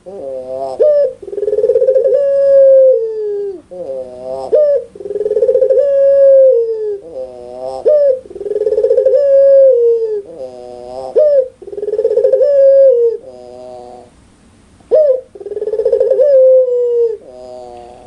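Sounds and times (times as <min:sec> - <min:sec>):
dove cooing loudly: 0:00.0 - 0:14.2, 0:14.9 - 0:18.0.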